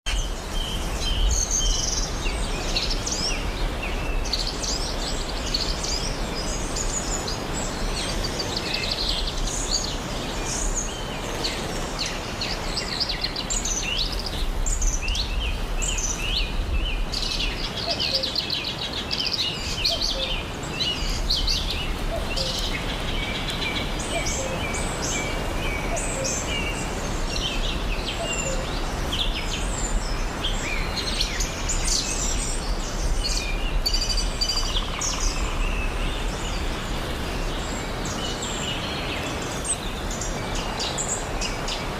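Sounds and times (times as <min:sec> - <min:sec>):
birds chirping and trilling: 0:00.1 - 0:41.9.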